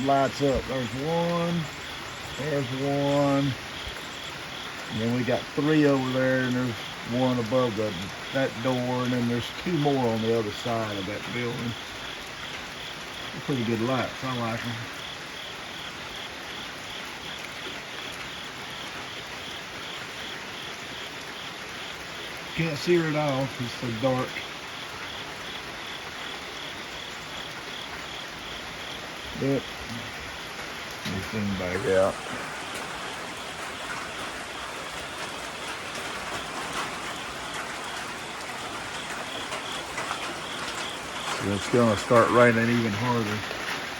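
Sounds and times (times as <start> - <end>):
insect chirping: 0.0 - 43.9
rain hiss: 0.0 - 43.9
water drips: 0.0 - 43.9.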